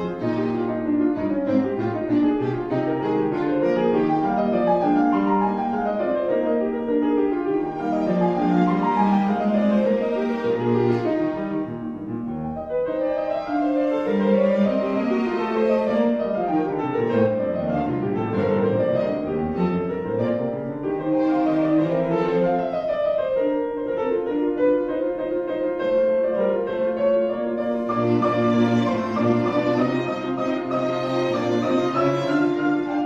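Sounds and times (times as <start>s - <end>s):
piano with bowed strings: 0.0s - 33.0s.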